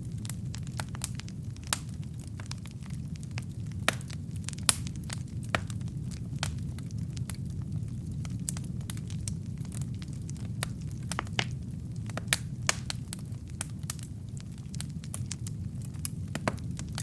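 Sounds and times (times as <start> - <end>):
fire rumbling in fireplace: 0.0 - 17.0
logs crackling and popping: 0.0 - 17.0.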